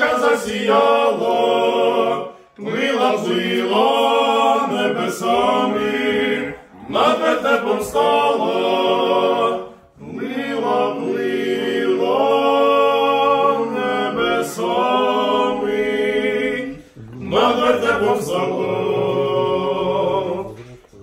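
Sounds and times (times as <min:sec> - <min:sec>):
male vocal quartet singing: 0:00.0 - 0:21.0.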